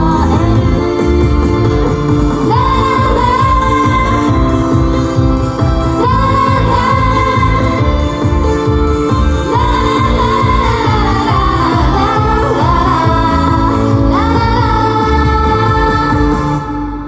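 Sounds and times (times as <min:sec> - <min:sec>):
backing music with steady beat: 0:00.0 - 0:17.0
women singing pop song: 0:00.0 - 0:17.0.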